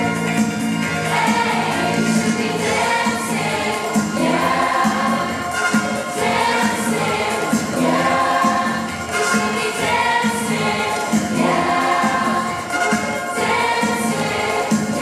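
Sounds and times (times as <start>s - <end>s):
chorus singing disco songs: 0.0s - 15.0s
steady beat: 0.0s - 15.0s.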